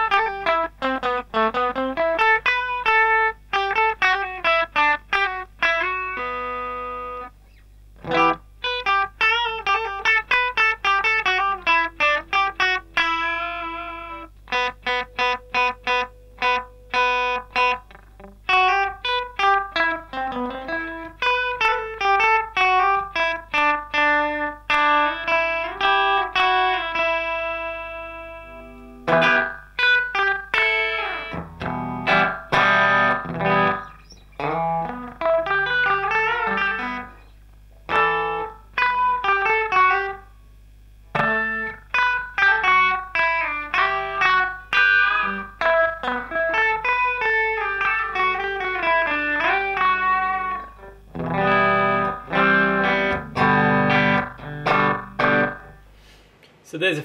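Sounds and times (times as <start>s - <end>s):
electric guitar with echo: 0.0s - 40.4s, 41.0s - 56.0s.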